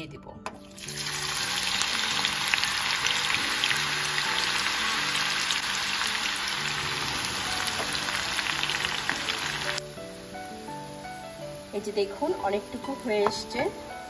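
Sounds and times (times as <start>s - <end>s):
onions sizzling in hot oil: 0.6s - 14.0s.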